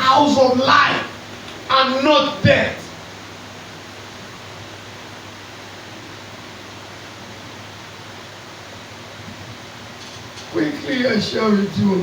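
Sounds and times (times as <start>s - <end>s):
faint low hum: 0.0s - 5.3s, 6.0s - 12.0s
background hiss: 0.0s - 12.0s.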